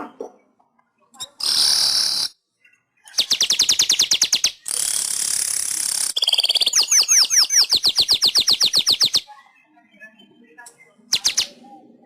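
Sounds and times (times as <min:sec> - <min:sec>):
weaver bird singing: 0:01.1 - 0:11.8.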